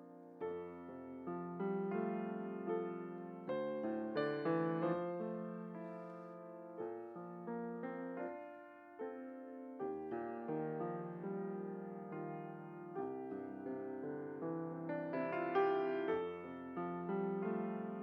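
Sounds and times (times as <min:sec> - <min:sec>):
electric piano slow chords: 0:00.0 - 0:18.0.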